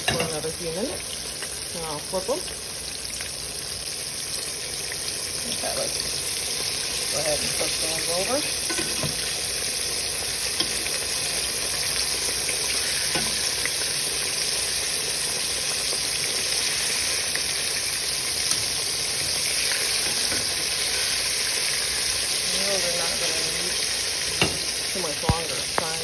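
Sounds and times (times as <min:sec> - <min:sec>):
fish sizzling in hot grease: 0:00.0 - 0:26.0.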